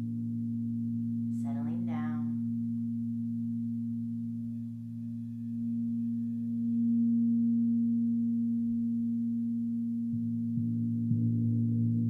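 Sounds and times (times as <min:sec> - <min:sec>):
crystal singing bowls ringing: 0:00.0 - 0:10.2.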